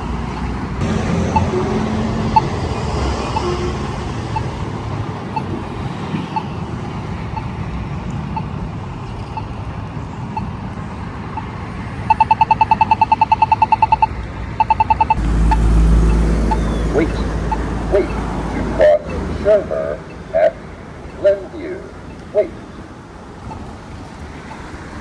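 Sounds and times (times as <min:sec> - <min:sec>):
pedestrian signal ticking: 0:00.0 - 0:24.3
road traffic: 0:00.0 - 0:25.0.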